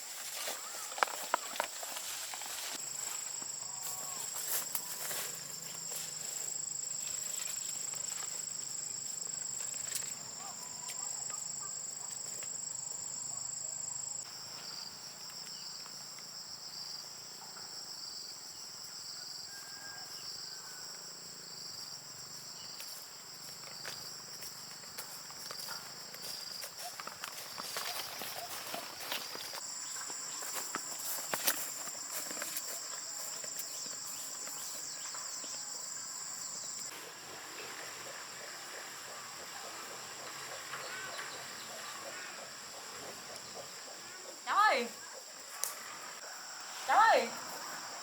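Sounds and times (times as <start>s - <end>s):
insect chorus trilling: 0.0s - 48.0s.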